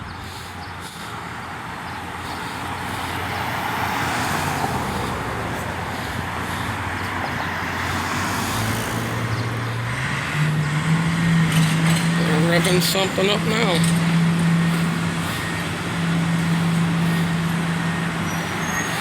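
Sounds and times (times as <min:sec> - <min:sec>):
heavy machine engine revving: 0:02.2 - 0:19.0.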